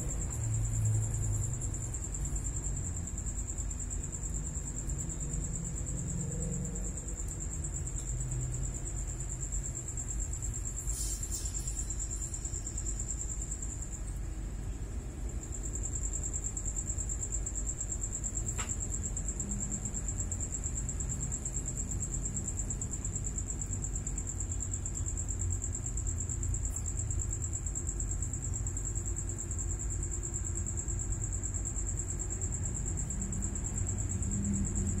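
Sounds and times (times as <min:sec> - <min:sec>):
low continuous rumble: 0:00.0 - 0:35.0.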